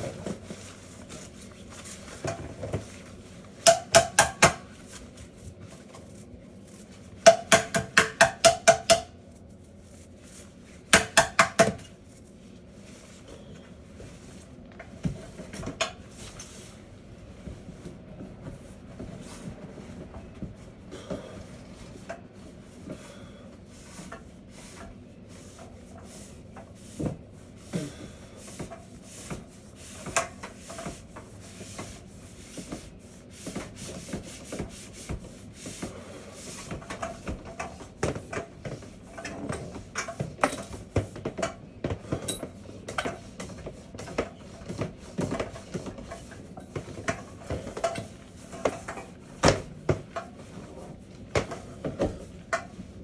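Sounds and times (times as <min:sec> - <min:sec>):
brush scraping inside vent duct: 0:00.0 - 0:07.6, 0:15.3 - 0:53.0
dryer humming: 0:00.0 - 0:53.0.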